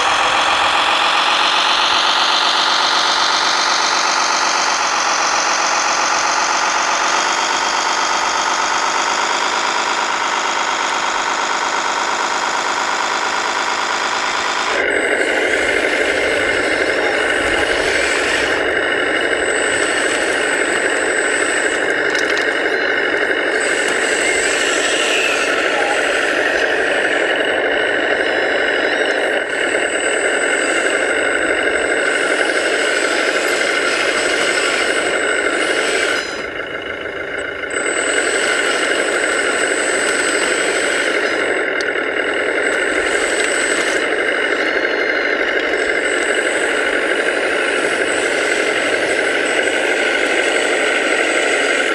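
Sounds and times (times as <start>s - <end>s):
motors and hydraulic pumps whining: 0.0s - 51.9s.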